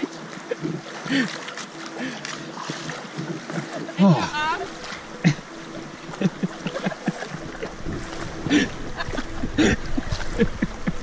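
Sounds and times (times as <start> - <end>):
paddle splashes: 0.0 - 11.0
river water washing around kayak: 0.0 - 11.0.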